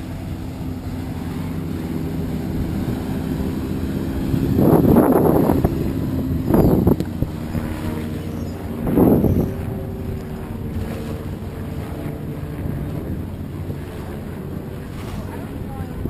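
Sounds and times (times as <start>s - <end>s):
motorboat engine: 0.0s - 16.0s
water splashing: 0.0s - 16.0s
wind: 0.0s - 16.0s.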